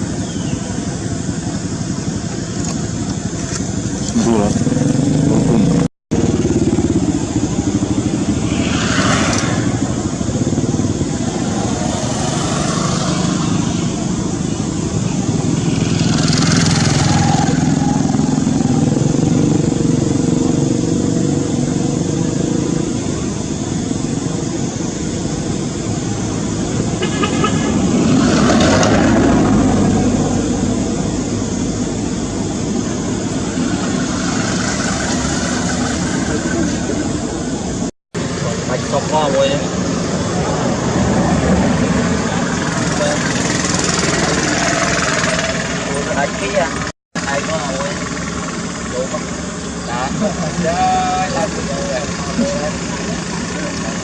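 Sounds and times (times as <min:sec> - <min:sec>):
engine running: 0:00.0 - 0:54.0
passing traffic rush: 0:00.0 - 0:54.0.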